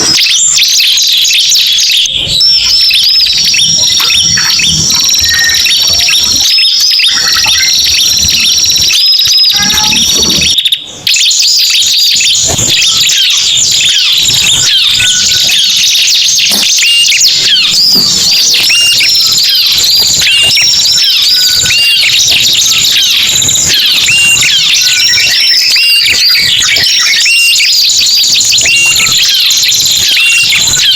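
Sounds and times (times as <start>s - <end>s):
birds chirping and trilling: 0.0s - 30.9s
repeated bird call notes: 0.0s - 30.9s.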